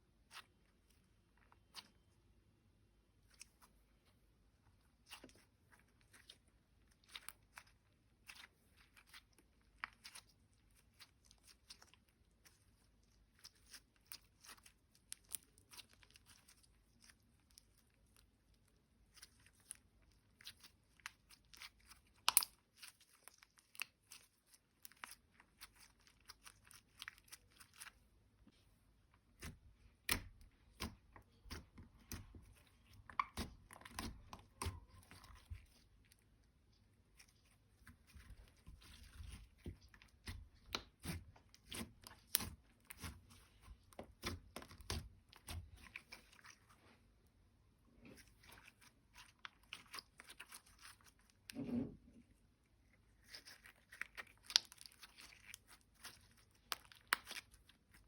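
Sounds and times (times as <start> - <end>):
low slime squelch: 0.0 - 58.0
slime squishing with sticky pops: 4.7 - 28.4, 29.0 - 47.4, 48.0 - 58.0.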